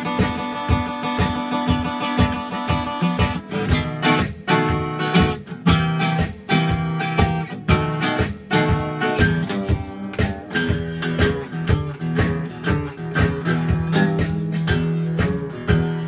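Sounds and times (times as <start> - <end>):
acoustic guitar playing blues: 0.0 - 16.0.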